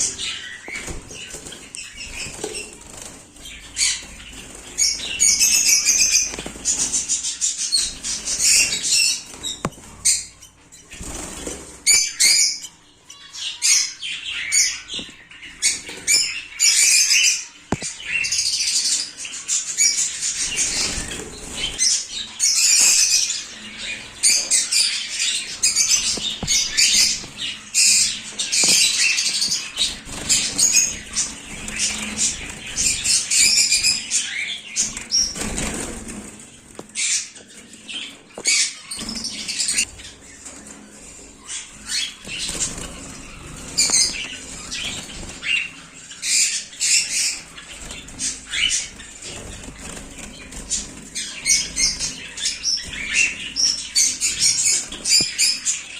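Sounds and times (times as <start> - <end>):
birds calling and chattering: 0.0 - 55.9.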